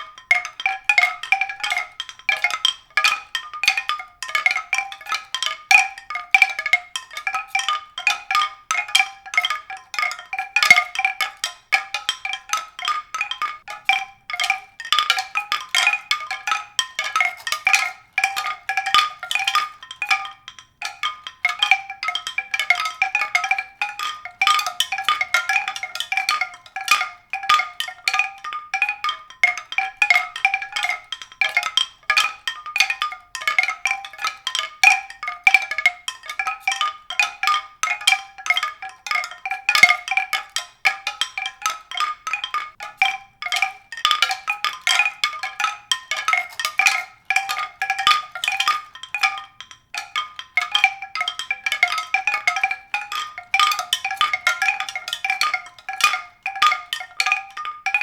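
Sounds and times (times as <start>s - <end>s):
high mallet percussion notes: 0.0s - 58.0s.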